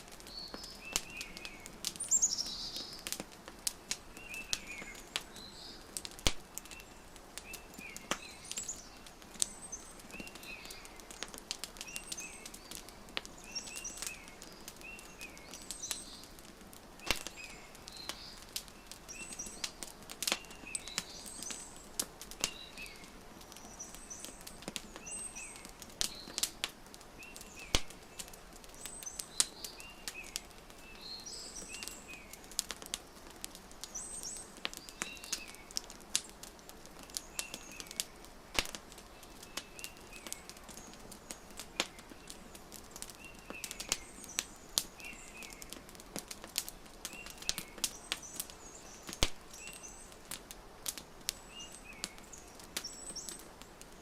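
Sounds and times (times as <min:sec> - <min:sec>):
fireplace fire crackling: 0:00.0 - 0:54.0
small birds chirping: 0:00.0 - 0:54.0.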